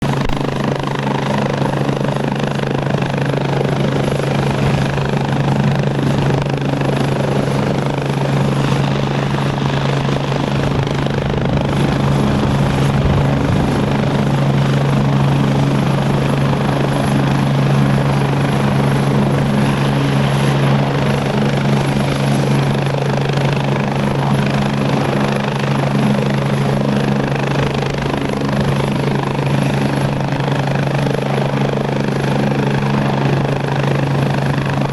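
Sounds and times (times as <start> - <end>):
helicopter rotor drone: 0.0 - 34.9
high turbine whine: 0.0 - 34.9.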